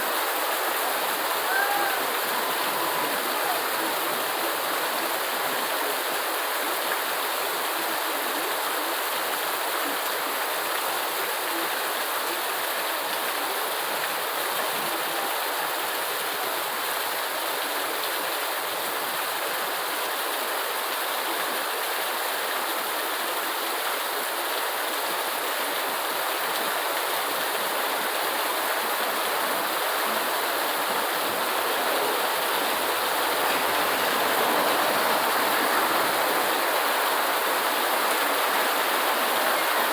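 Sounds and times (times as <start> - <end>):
heavy rain hissing: 0.0 - 19.8, 24.4 - 39.9.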